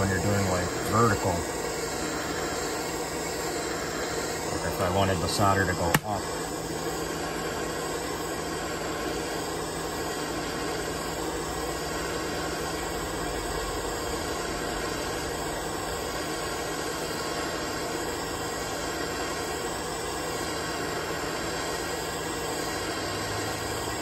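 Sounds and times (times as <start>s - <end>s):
gas torch flame hissing: 0.0s - 24.0s.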